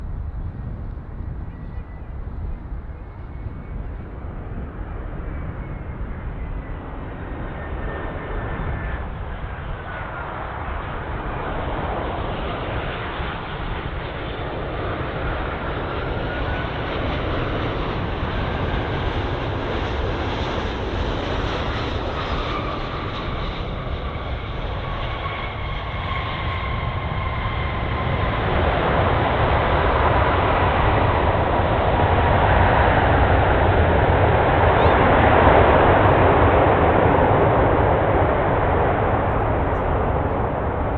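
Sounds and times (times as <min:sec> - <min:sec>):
jet engines rumbling: 0:00.0 - 0:40.9.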